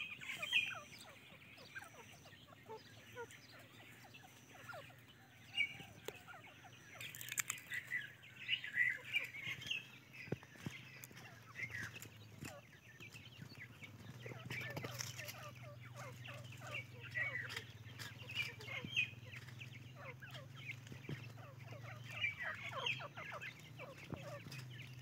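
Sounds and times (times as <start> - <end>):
chicks chirping and peeping: 0.0 - 25.0.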